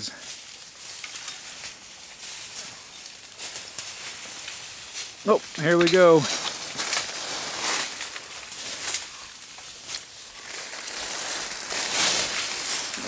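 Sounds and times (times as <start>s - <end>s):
branches and leaves rustling: 0.0s - 13.0s
branches snapping: 0.6s - 13.0s.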